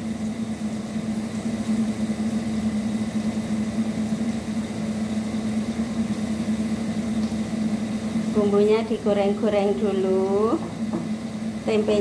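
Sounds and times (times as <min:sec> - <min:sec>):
food frying in oil: 0:00.0 - 0:12.0
machine hum: 0:00.0 - 0:12.0.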